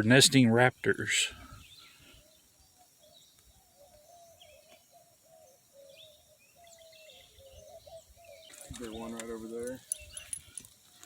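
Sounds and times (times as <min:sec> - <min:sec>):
birds calling low notes: 0:00.0 - 0:11.0
higher bird chirps: 0:00.7 - 0:11.0.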